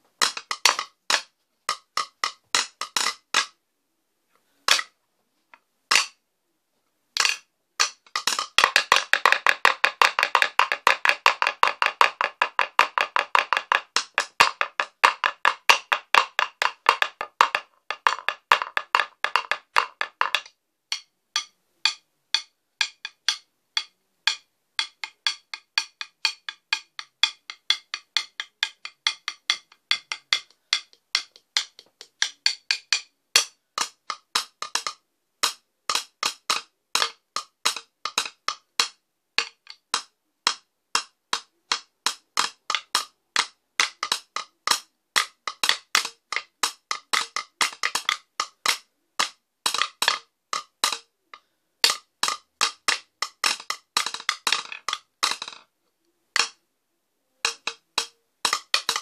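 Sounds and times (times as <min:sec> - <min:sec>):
stick drumming on wooden seat: 0:00.0 - 0:03.5, 0:07.2 - 0:51.1, 0:51.8 - 0:55.6, 0:56.4 - 0:56.6, 0:57.4 - 0:59.0.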